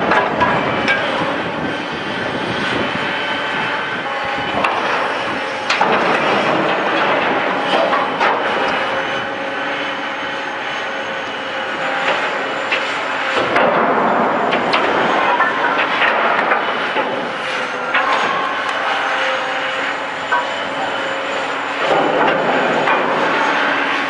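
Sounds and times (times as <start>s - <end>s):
demolition shear machine noise: 0.0s - 24.0s.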